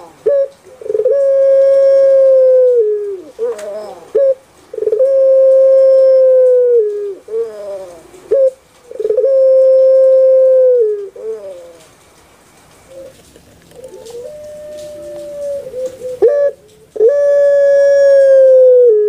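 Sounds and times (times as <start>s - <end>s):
dove cooing: 0.0s - 12.1s, 12.8s - 19.0s.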